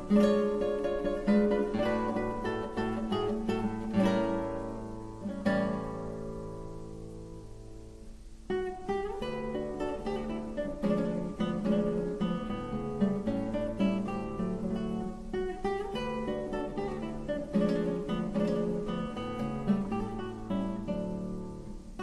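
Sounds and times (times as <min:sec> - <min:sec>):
classical guitar playing: 0:00.0 - 0:22.0.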